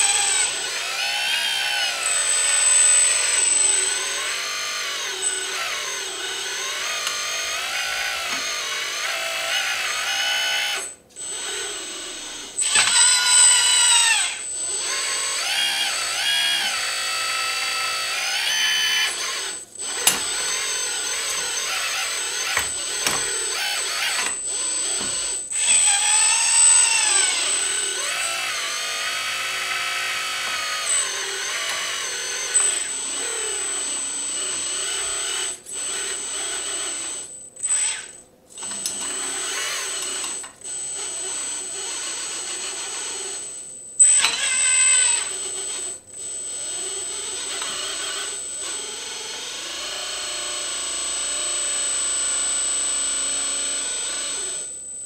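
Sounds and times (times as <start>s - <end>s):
hydraulic pump whining: 0.0s - 54.8s.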